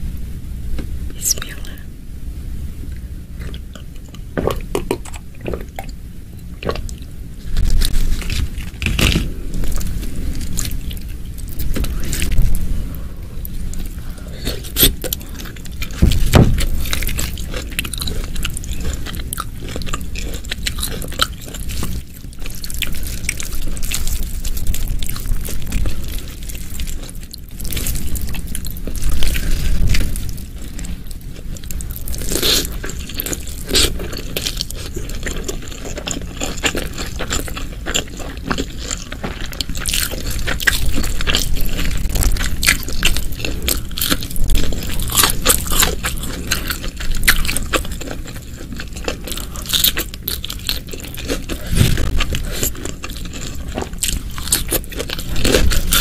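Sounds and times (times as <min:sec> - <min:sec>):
biting and chewing food: 0:03.4 - 0:12.6, 0:13.4 - 0:56.0.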